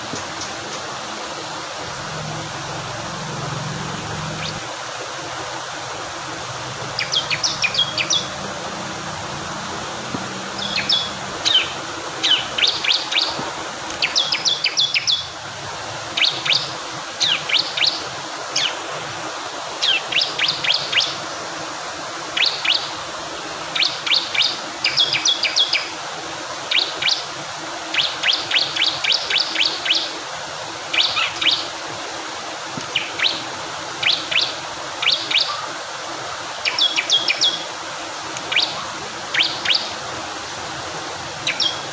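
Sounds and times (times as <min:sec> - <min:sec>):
flowing water: 0:00.0 - 0:41.9.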